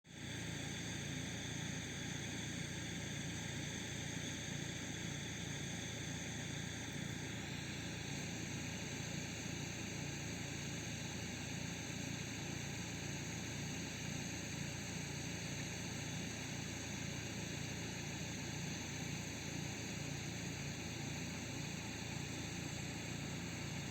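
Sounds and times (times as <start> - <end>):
faint high whine: 0.2 - 23.9.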